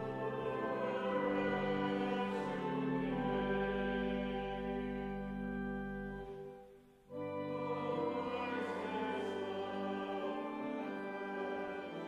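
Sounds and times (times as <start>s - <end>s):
choir-like sung chord: 0.0s - 6.4s, 7.1s - 12.0s
slow classical music chords: 0.0s - 12.0s.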